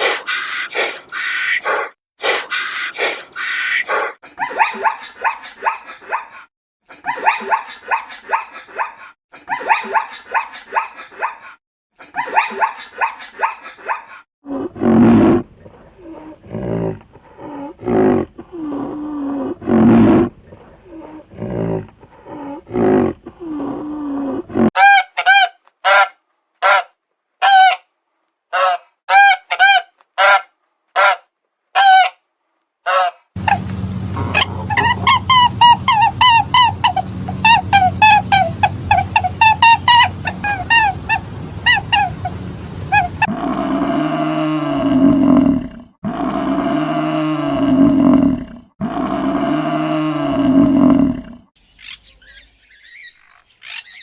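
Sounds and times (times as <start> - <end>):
animal calls: 0.0 - 27.8, 28.5 - 31.2, 32.9 - 45.6, 48.8 - 54.0.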